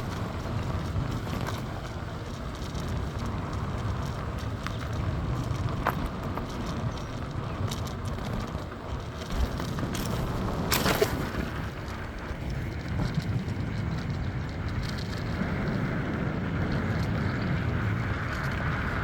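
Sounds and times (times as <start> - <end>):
bicycle tyres on road: 0.0 - 19.0
wind on microphone: 0.0 - 19.0.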